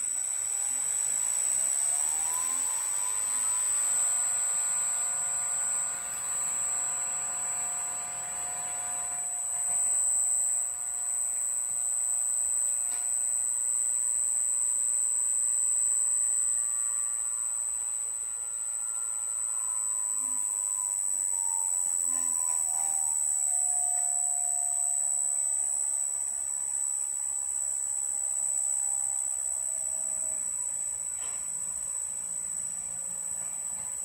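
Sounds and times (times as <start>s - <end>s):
electric motor whine falling: 0.0s - 34.0s
steady high-pitched whine: 0.0s - 34.0s.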